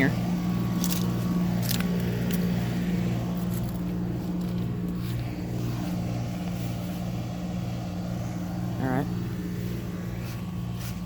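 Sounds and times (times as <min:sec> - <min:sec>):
compressor humming: 0:00.0 - 0:11.0
condenser fan rushing: 0:00.0 - 0:11.0.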